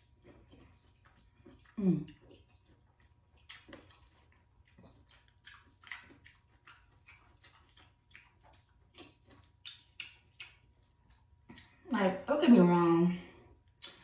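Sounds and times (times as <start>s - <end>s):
mouth chewing wetly: 0.0s - 11.8s.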